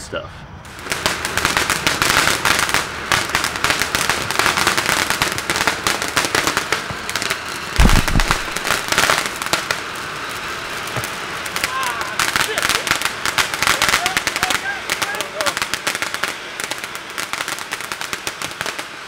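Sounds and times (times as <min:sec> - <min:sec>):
fireworks hissing: 0:00.0 - 0:19.0
crackling pops: 0:00.6 - 0:19.0.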